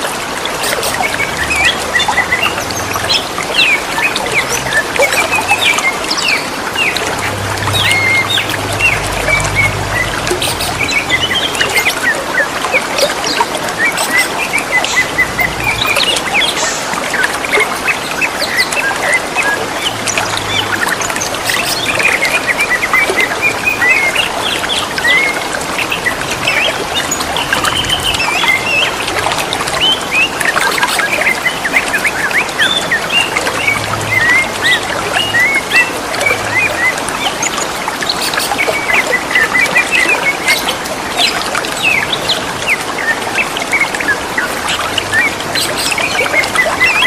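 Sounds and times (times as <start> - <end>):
running water trickling: 0.0 - 47.0
birds chirping and whistling: 0.6 - 47.0.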